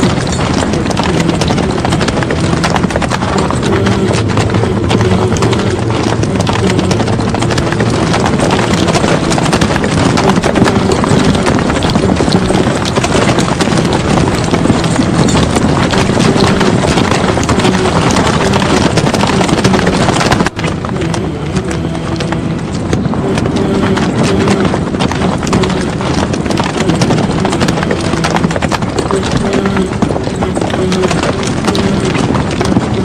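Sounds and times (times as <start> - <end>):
horses galloping: 0.0 - 33.0.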